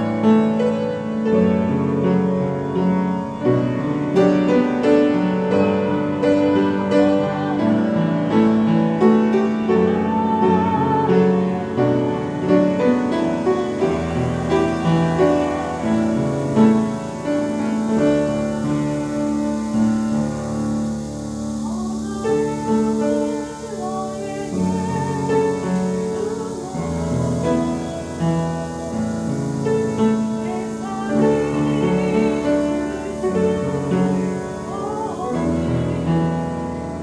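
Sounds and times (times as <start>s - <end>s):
piano playing slow chords: 0.0s - 37.0s
woman singing: 5.2s - 20.2s, 21.6s - 37.0s.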